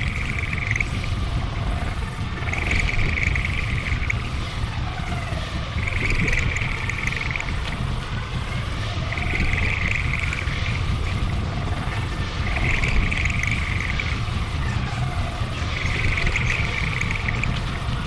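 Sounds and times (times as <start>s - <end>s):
experimental noise music: 0.0s - 18.0s.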